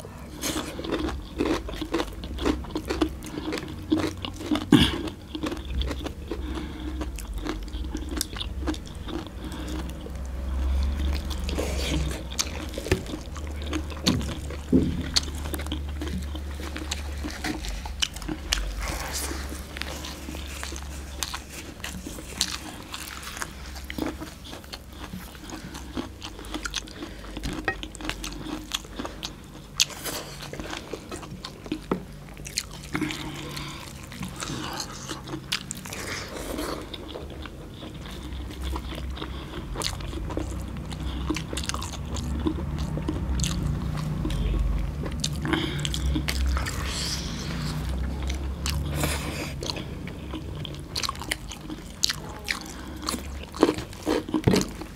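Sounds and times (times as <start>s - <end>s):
people chewing and lip smacking: 0.0s - 54.9s.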